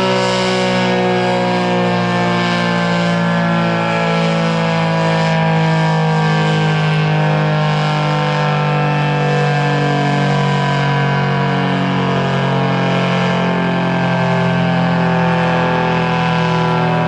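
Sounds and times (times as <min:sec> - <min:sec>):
rotating tornado siren: 0:00.0 - 0:17.0.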